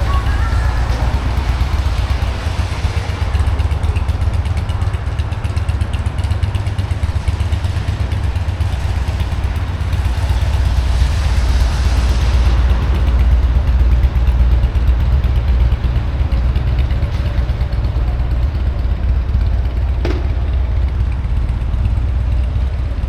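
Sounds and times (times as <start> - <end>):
rain hiss: 0.0 - 19.9
low rumble: 0.0 - 23.0.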